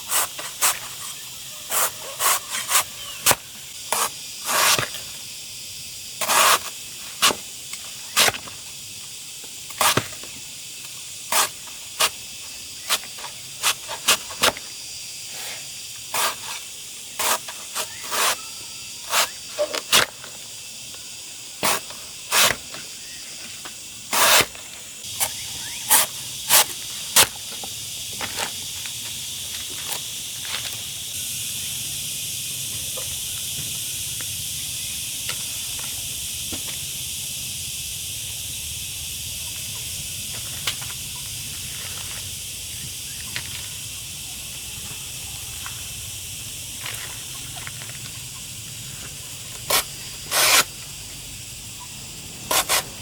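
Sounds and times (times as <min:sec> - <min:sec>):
steady high hiss: 0:00.0 - 0:53.0.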